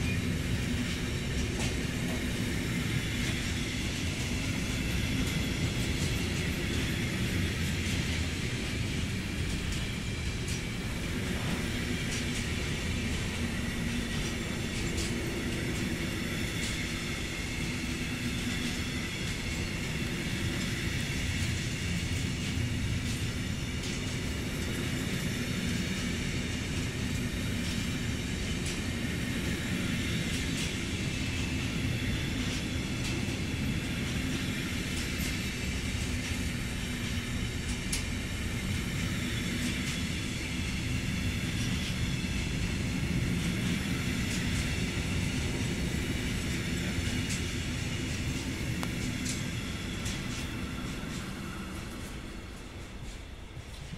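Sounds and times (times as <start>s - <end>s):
freight train rumbling: 0.0s - 53.9s
wheels clicking on rails: 0.0s - 53.9s.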